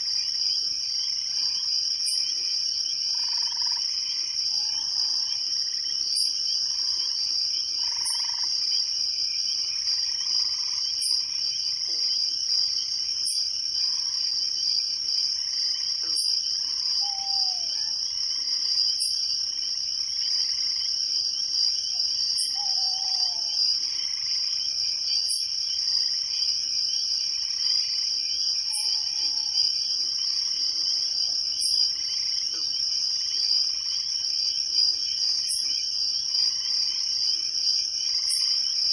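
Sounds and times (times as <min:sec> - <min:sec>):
frogs calling: 0:00.0 - 0:37.4
crickets trilling: 0:00.0 - 0:38.9.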